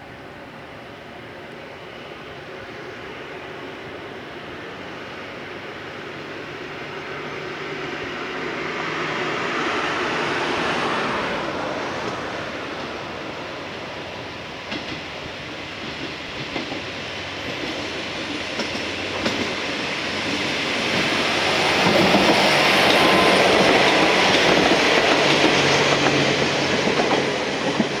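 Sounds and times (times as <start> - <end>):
electric train running on rails: 0.0 - 28.0.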